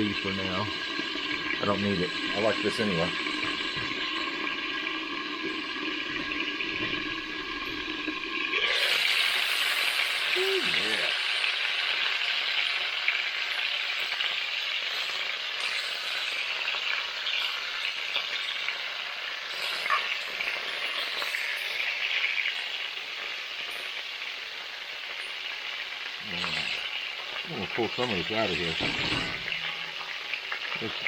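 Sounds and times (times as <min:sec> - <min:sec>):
chicken sizzling in hot oil: 0:00.0 - 0:31.0.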